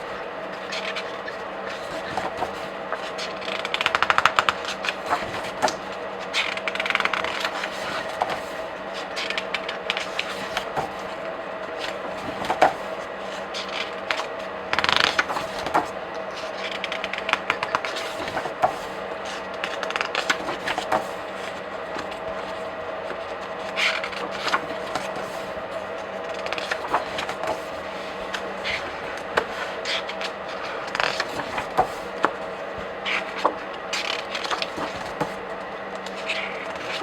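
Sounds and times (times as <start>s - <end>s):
comic book pages flipping: 0.6s - 35.4s.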